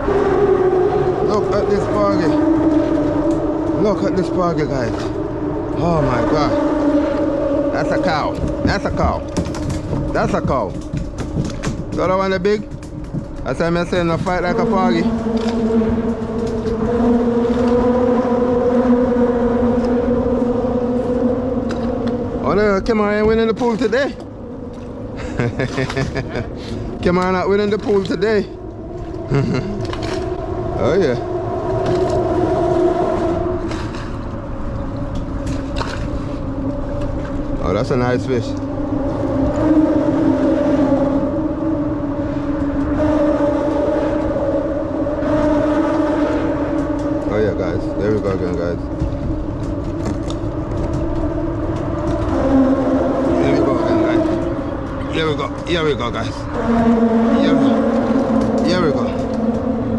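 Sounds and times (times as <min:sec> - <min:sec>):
engine drone: 0:00.0 - 0:59.9
low rumble: 0:00.0 - 0:59.9.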